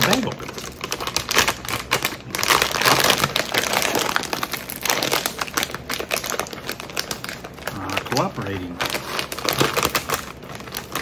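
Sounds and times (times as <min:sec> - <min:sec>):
chip bag crinkling: 0:00.0 - 0:11.0.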